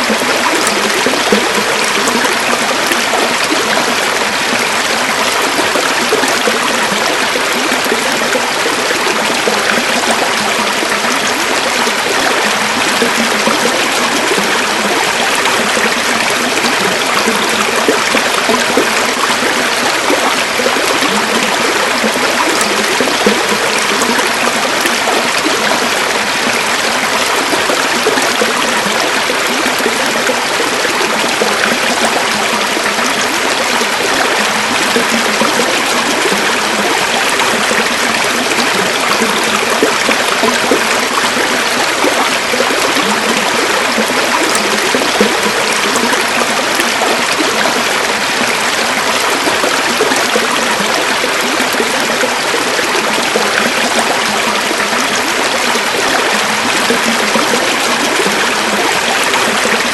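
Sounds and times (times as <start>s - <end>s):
river water over stones: 0.0s - 59.9s.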